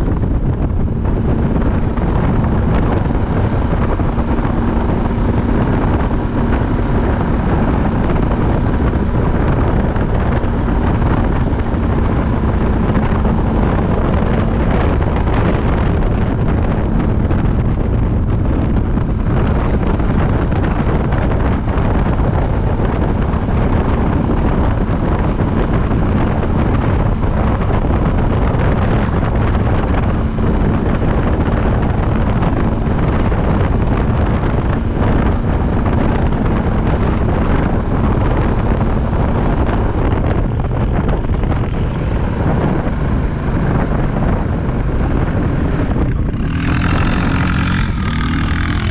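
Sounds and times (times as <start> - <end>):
low hum: 0.0 - 48.9
quad bike engine running: 0.0 - 48.9
wind buffeting microphone: 0.0 - 48.9.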